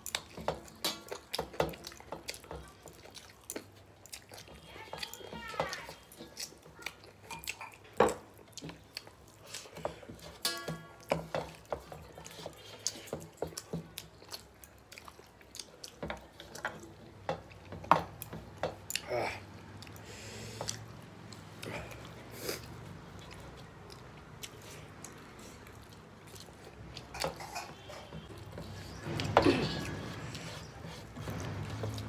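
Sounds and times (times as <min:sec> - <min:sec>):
wet chewing and lip-smacking: 0:00.0 - 0:32.0.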